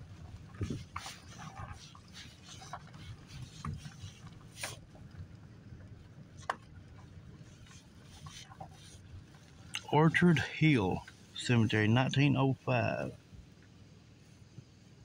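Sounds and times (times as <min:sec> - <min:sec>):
car rolling on gravel: 0:00.0 - 0:14.8.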